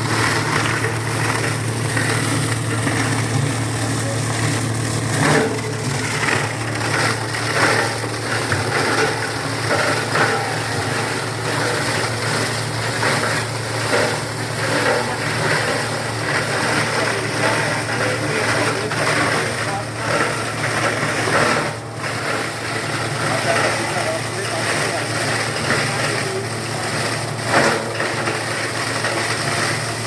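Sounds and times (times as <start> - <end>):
shredder crunching and tearing: 0.0 - 30.0
shredder motor hum: 0.0 - 30.0.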